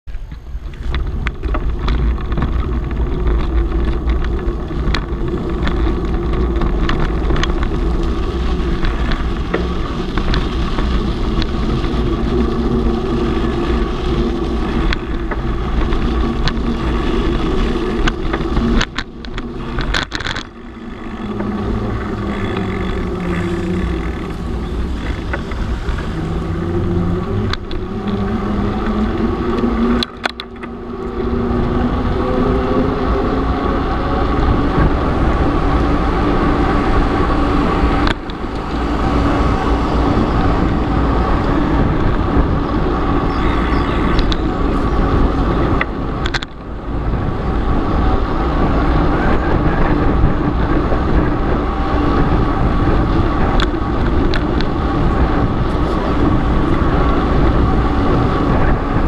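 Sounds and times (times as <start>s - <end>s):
bicycle rumble and clatter: 0.0s - 59.0s
faint tyre hum: 0.0s - 59.0s
wind buffeting microphone: 0.1s - 59.0s.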